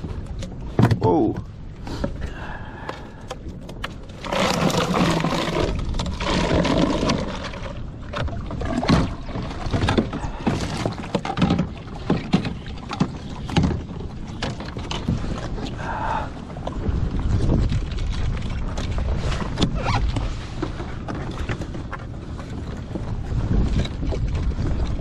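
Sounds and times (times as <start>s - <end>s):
water sloshing: 0.0s - 25.0s.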